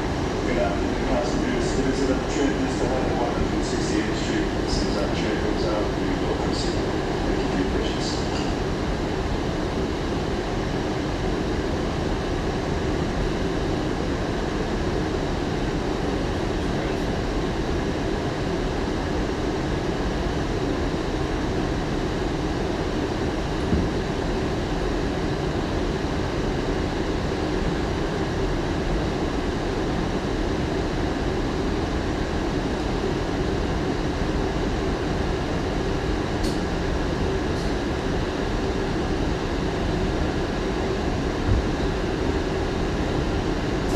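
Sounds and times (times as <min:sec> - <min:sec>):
subway wheels rumbling on rail: 0:00.0 - 0:43.9.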